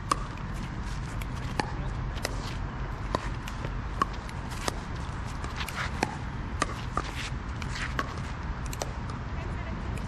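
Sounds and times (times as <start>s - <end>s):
ball bouncing on court: 0.0s - 0.6s, 1.2s - 9.2s.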